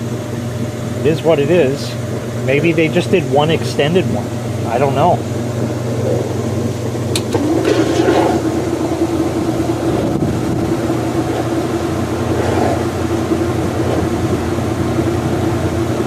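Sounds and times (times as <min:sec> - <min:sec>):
steady motor hum: 0:00.0 - 0:16.0
washing machine spinning: 0:00.0 - 0:16.0.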